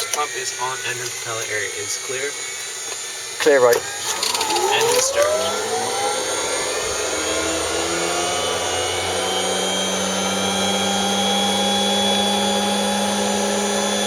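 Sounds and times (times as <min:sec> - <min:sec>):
turboprop starter whine rising: 0:00.0 - 0:14.0.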